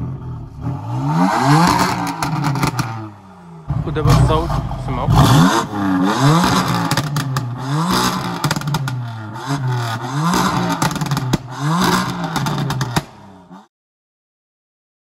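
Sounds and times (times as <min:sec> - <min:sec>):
exhaust crackles: 0:00.0 - 0:13.6
car engine revving: 0:00.0 - 0:13.7.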